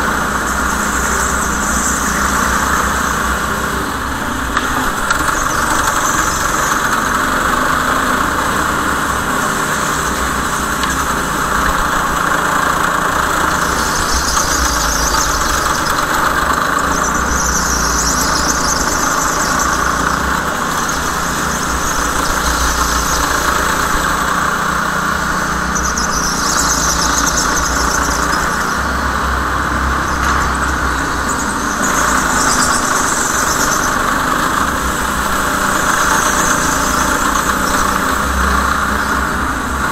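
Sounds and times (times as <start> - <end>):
go-kart engine drone: 0.0 - 39.9.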